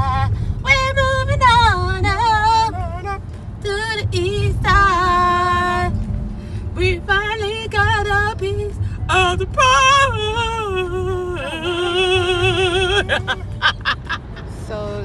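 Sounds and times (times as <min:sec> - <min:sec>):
woman singing: 0:00.0 - 0:05.9, 0:06.8 - 0:13.5
car driving rumble: 0:00.0 - 0:15.0.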